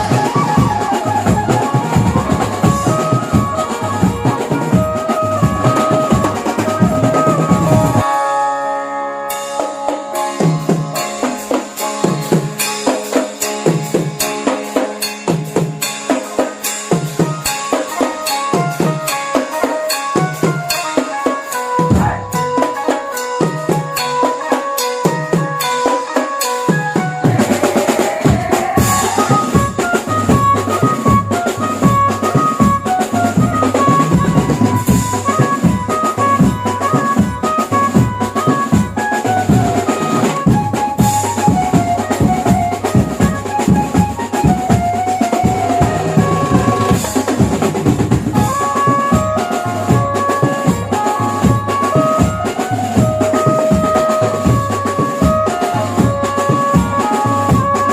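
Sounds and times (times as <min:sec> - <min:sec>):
driving drum-kit rhythm: 0:00.0 - 0:08.2, 0:09.3 - 0:57.9
brass band melody: 0:00.0 - 0:13.2, 0:17.4 - 0:57.9.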